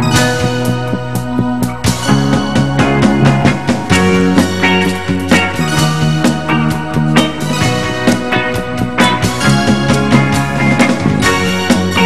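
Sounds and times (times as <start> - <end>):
live band instrumental: 0.0 - 12.0.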